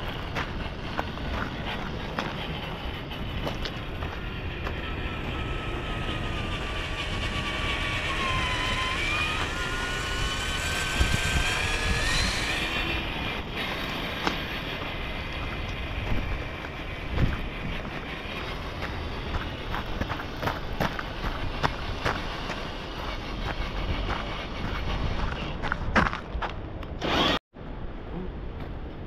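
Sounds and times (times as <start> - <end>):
electric motor and gears whining: 0.0 - 27.4.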